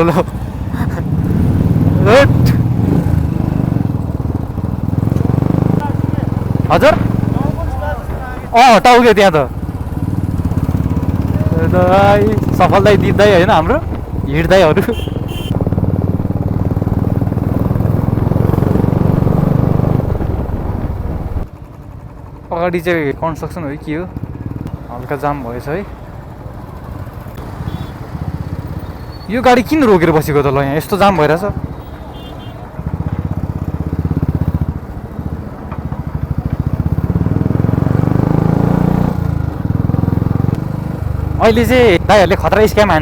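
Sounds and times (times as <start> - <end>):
motorcycle engine and exhaust: 0.0 - 25.2, 26.0 - 43.0.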